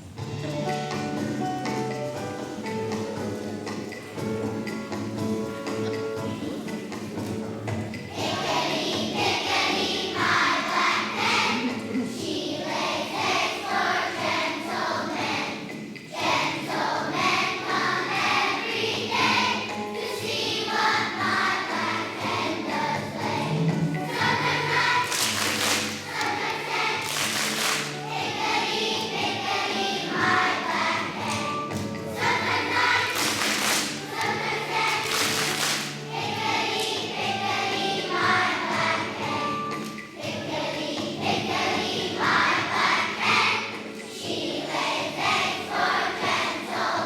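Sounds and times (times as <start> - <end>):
children's choir singing: 0.0 - 47.0
musical accompaniment: 0.0 - 47.0.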